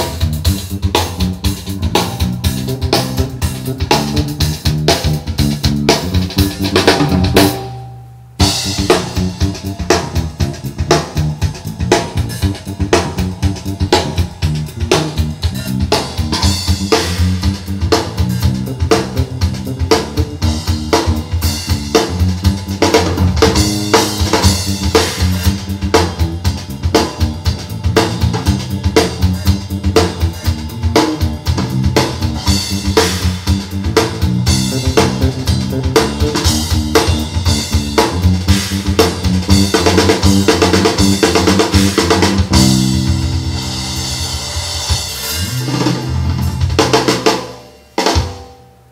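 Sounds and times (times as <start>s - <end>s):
drum kit and bass music: 0.0s - 48.9s.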